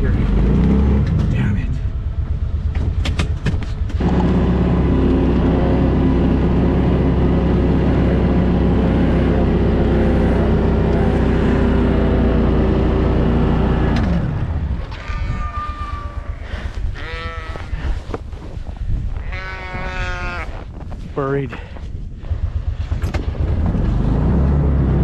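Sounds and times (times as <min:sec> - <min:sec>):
vehicle engine revving: 0:00.0 - 0:18.2, 0:22.2 - 0:25.0.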